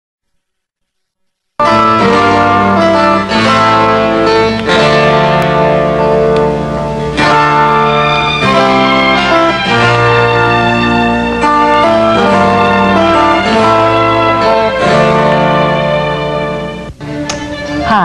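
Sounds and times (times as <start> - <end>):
instrumental music with held chords: 1.6 - 18.0.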